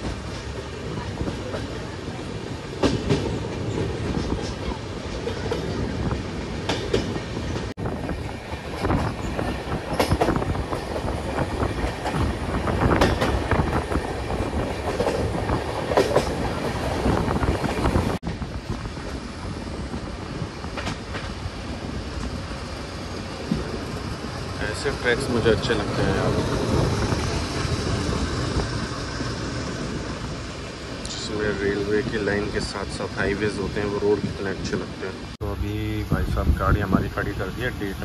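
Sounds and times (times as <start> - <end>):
train rail rumble: 0.0 - 38.0.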